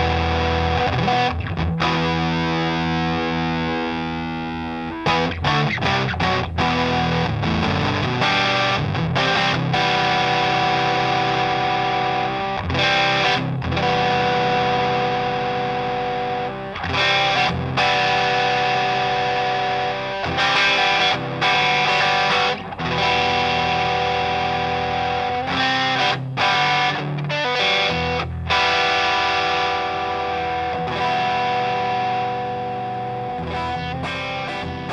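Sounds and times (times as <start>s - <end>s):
overdriven electric guitar chords: 0.0s - 34.9s.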